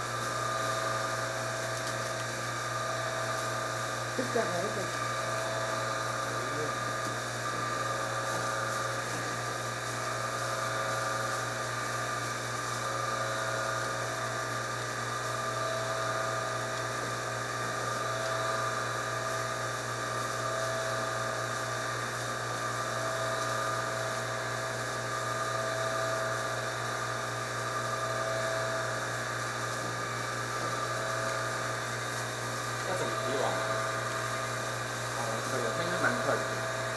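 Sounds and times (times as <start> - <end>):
electric motor humming and whining: 0.0 - 36.9.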